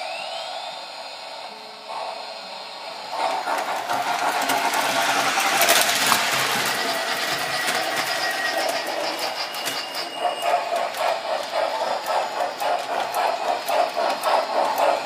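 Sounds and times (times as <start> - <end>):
model train mechanical rush: 0.0 - 15.0.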